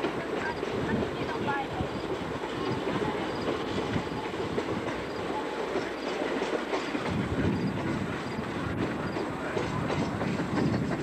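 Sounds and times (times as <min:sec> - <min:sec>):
steam train passing: 0:00.0 - 0:11.0
wheels clacking on rails: 0:00.0 - 0:11.0.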